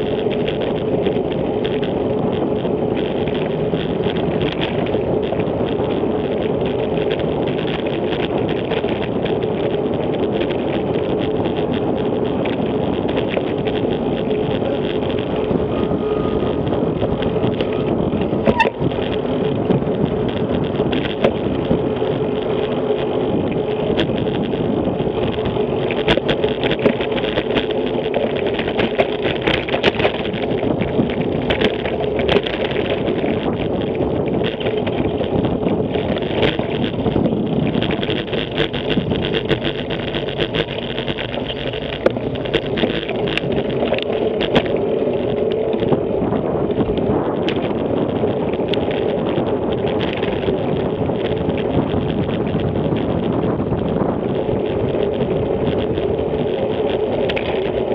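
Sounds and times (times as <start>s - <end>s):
bicycle knocking and rattling: 0.0s - 57.9s
city traffic: 0.0s - 57.9s
wind noise: 0.0s - 57.9s.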